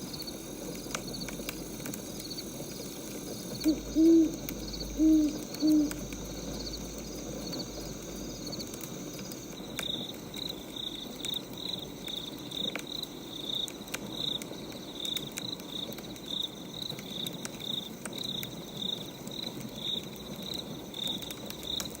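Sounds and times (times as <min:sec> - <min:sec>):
wood fire crackling and popping: 0:00.0 - 0:03.6, 0:04.4 - 0:22.0
crickets chirping: 0:00.0 - 0:22.0.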